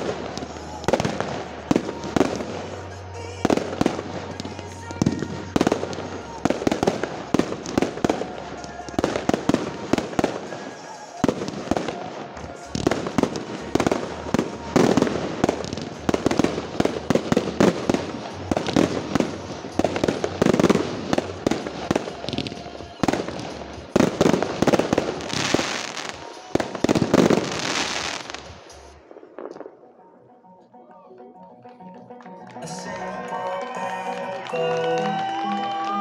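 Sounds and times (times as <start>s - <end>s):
fireworks bangs and crackling: 0.0s - 29.8s.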